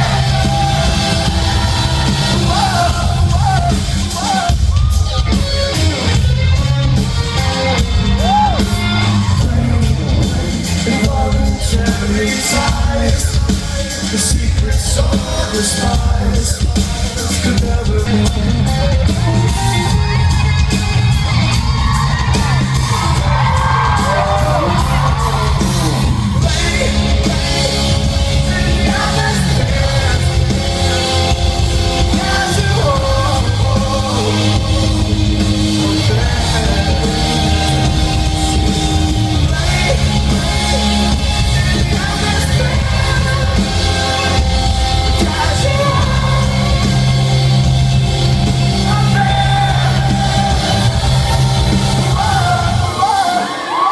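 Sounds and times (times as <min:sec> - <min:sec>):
person singing lead vocal: 0:00.0 - 0:06.2, 0:08.1 - 0:53.9
heavy bass and drums: 0:00.0 - 0:53.9
live rock band: 0:00.0 - 0:53.9.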